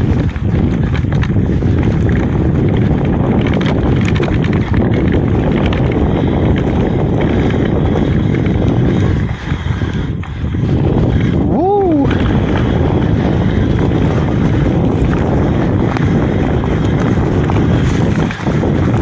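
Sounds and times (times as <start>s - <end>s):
bike rattling: 0.0s - 19.0s
bike tyres rolling: 0.0s - 19.0s
wind on microphone: 0.0s - 19.0s.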